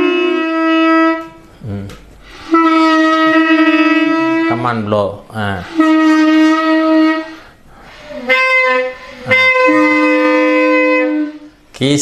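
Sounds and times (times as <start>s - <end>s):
clarinet notes: 0.0s - 11.7s.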